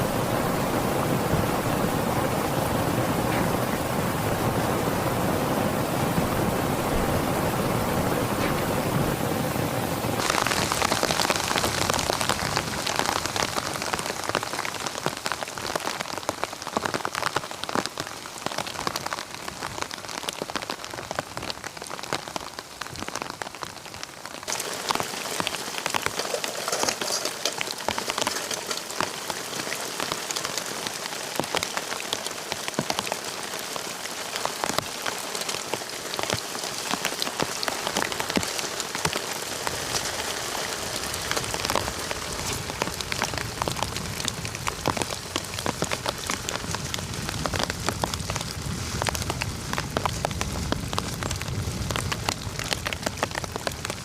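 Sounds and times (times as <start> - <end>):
raindrops striking close by: 0.0 - 54.0
steady rain: 0.0 - 54.0.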